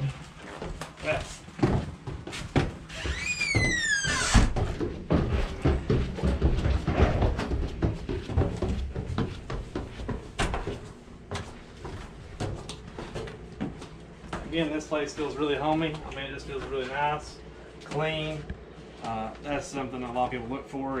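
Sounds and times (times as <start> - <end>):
heavy footsteps on stairs: 0.0 - 19.1.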